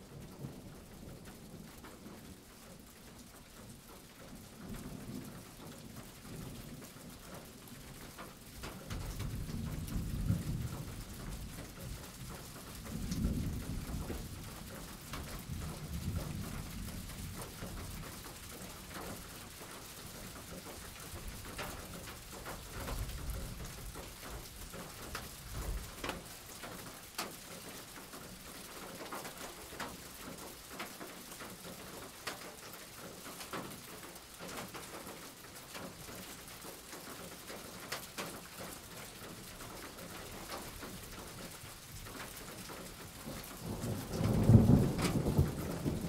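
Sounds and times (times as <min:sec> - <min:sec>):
raindrops ticking on a surface: 0:00.0 - 0:46.0
steady rain falling: 0:00.0 - 0:46.0.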